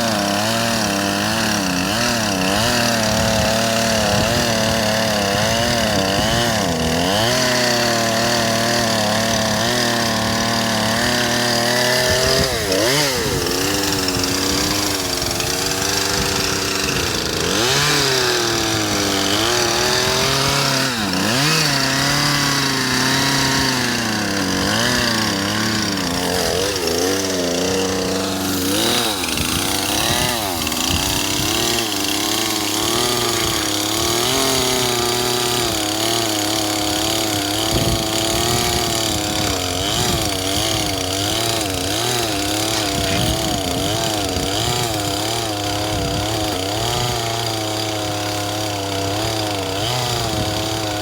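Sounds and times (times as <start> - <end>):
chainsaw engine sagging and recovering: 0.0 - 51.0.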